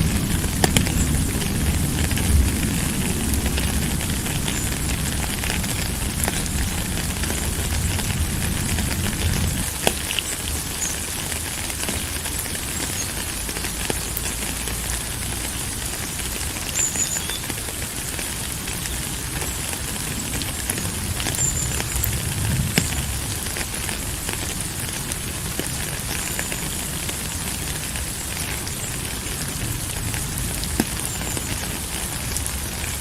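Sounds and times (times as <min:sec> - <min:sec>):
rain hiss: 0:00.0 - 0:33.0
sharp drips and crackles: 0:00.0 - 0:33.0.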